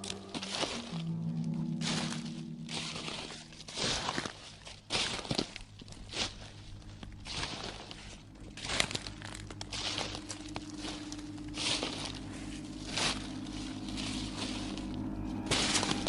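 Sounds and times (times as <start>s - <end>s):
crunching crinkling noises: 0.0s - 16.0s
low droning hum: 0.0s - 16.0s.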